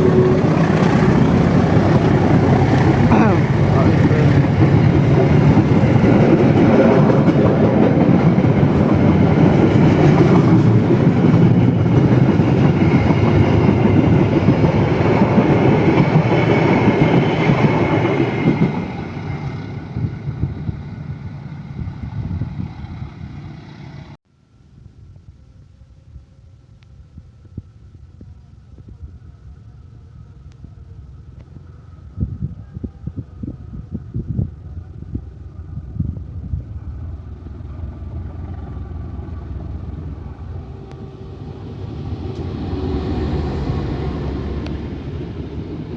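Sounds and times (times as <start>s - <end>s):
train wheels rumbling on rails: 0.0s - 24.2s, 30.1s - 45.9s.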